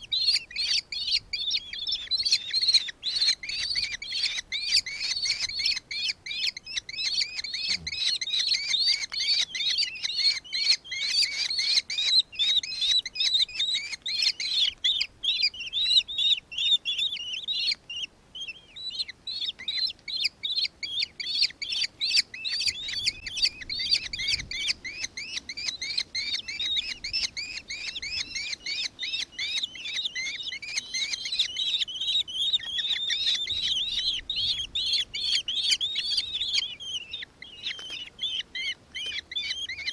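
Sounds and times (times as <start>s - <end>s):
kestrel shrill chittering: 0.0s - 39.9s.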